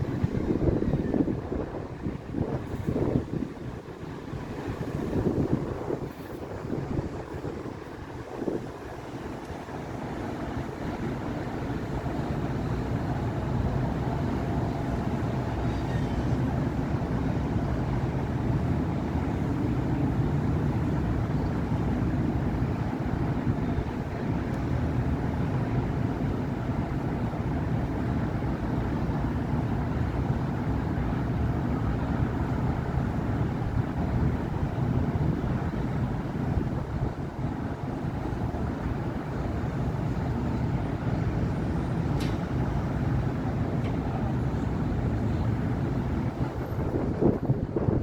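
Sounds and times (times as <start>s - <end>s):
city traffic rumble: 0.0s - 48.0s.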